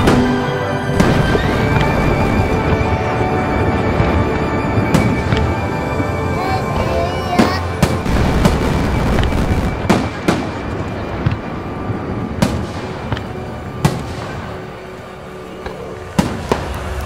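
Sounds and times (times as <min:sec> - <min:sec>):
rush of fireworks launches: 0:00.0 - 0:05.6, 0:07.4 - 0:14.7, 0:16.1 - 0:17.0
fireworks bangs: 0:00.0 - 0:15.0, 0:15.6 - 0:17.0.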